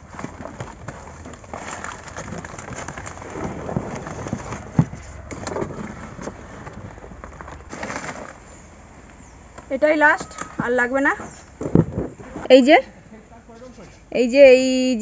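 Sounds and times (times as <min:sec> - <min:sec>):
leaves and stalks rustling: 0:00.0 - 0:14.5.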